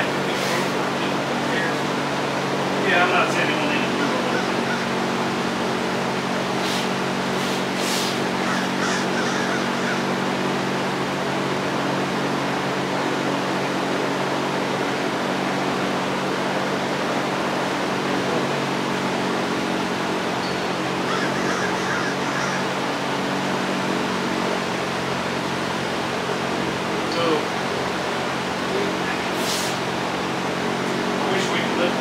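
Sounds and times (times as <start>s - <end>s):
mechanical drone: 0.0s - 32.0s.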